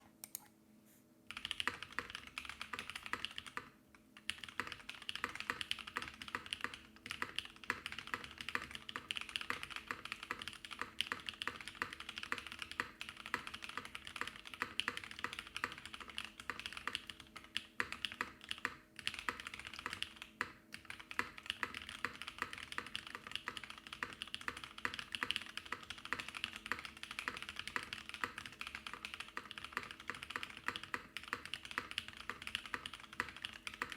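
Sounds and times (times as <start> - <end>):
fast mechanical keyboard typing: 1.3 - 33.9.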